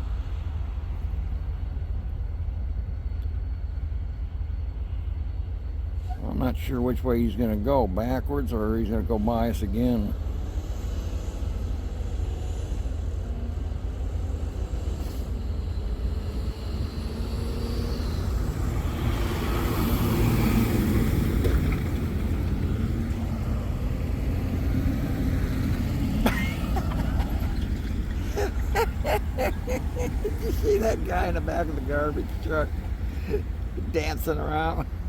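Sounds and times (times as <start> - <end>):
low vehicle engine rumble: 0.0 - 35.0.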